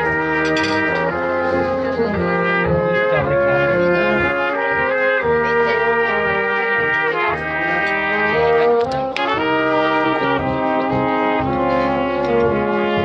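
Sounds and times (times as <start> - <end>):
brass band playing: 0.0 - 13.0
trumpets playing melody: 0.0 - 13.0
tuba bass line: 0.0 - 13.0.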